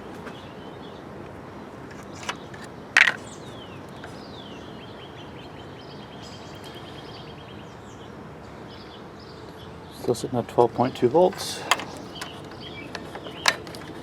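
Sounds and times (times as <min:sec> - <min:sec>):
birds chirping and trilling: 0:00.0 - 0:14.0
steady background noise: 0:00.0 - 0:14.0.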